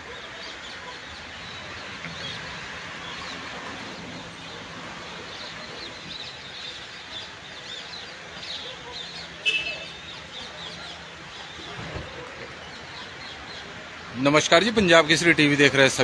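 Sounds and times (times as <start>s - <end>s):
birds chirping: 0.0s - 16.0s
highway traffic hiss: 0.0s - 16.0s.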